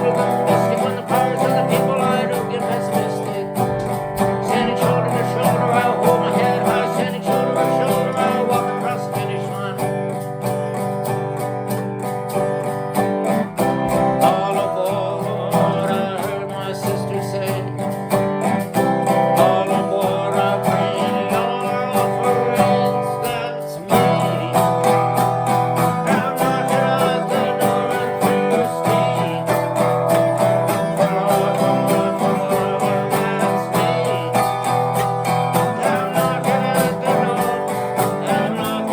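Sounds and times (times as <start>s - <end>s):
acoustic guitar strumming: 0.0s - 38.9s
person singing: 0.0s - 38.9s.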